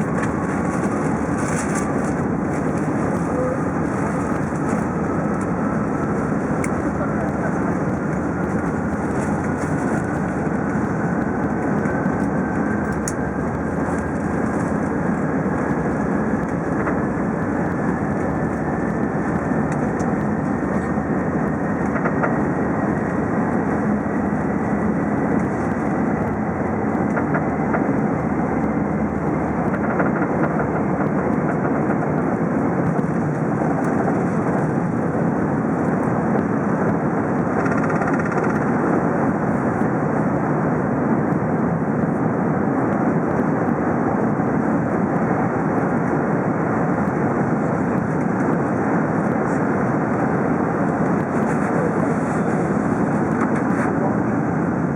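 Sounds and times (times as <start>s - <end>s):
jet engines and airflow rush: 0.0s - 54.9s.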